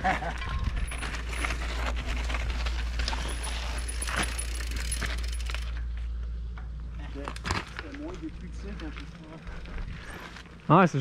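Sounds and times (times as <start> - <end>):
bike chain and frame rattling: 0.0 - 6.1, 7.0 - 11.0
low rumble of tyres on dirt: 0.0 - 11.0.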